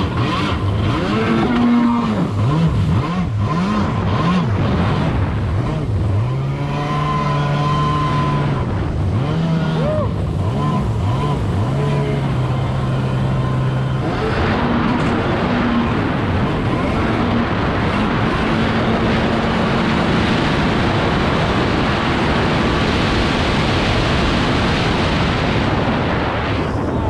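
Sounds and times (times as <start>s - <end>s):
two-stroke engine revving: 0.0s - 26.6s.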